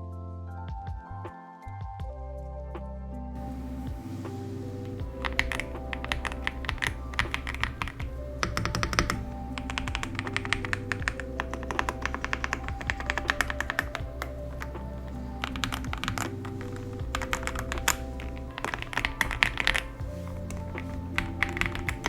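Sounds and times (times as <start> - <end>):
lo-fi background music: 0.0 - 22.0
mechanical keyboard typing: 3.4 - 22.0.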